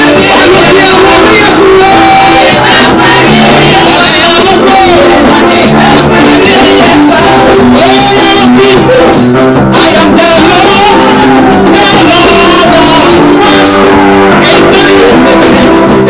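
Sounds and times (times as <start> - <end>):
gospel worship music: 0.0 - 16.0.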